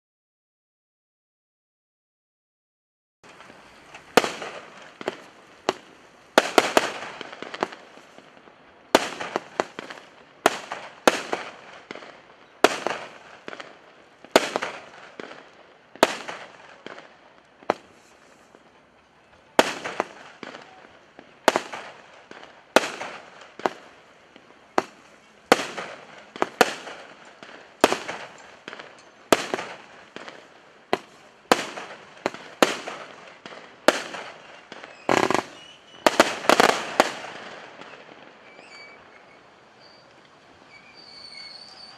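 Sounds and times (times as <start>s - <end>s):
firework battery bangs: 3.3s - 18.6s, 19.6s - 39.0s.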